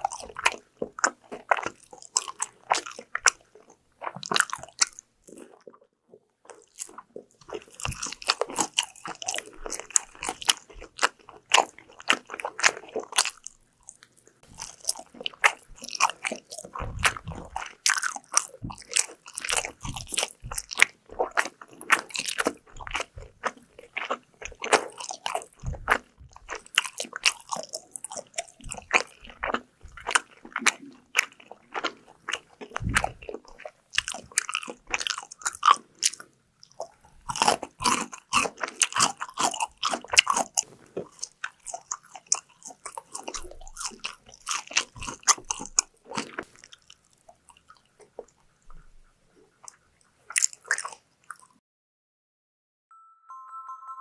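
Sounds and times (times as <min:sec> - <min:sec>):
crunchy chewing of fried food: 0:00.0 - 0:51.6.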